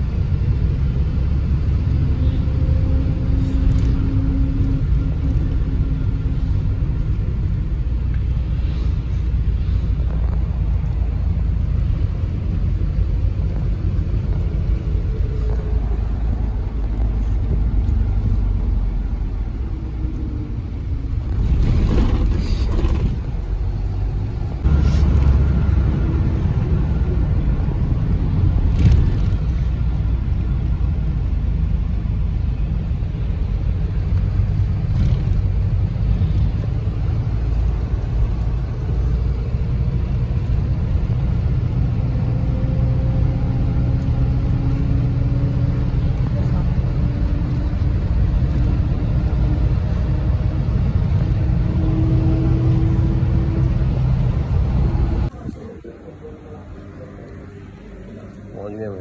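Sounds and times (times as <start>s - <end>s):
vehicle engine and tyre rumble: 0.0s - 59.0s.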